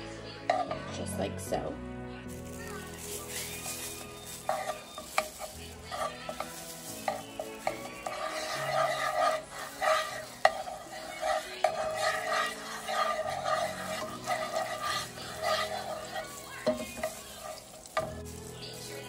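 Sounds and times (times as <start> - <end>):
butter and oil sizzling: 0.4 - 19.0
utensil scraping pan: 0.5 - 0.9, 2.4 - 19.0.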